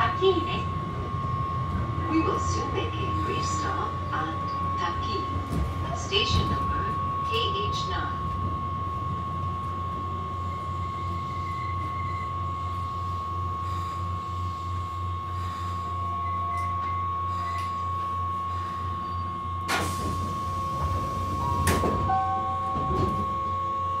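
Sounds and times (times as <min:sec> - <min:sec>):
constant high-pitched tone: 0:00.0 - 0:19.7
train rumbling: 0:00.0 - 0:24.0.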